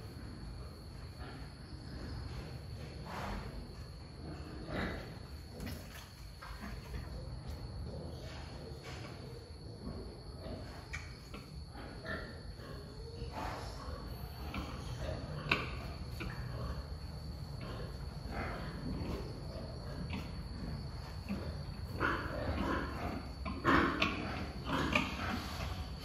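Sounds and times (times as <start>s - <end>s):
wild boar grunting: 0.0s - 26.0s.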